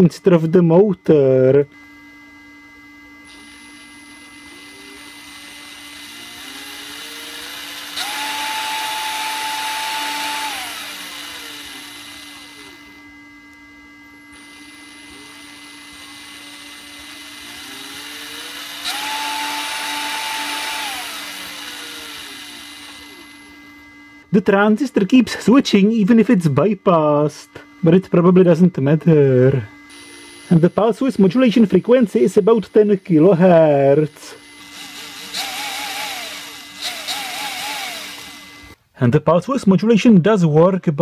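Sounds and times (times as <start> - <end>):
thin high whine: 0.0 - 6.6, 8.1 - 38.8
cordless drill motor running: 0.0 - 38.8.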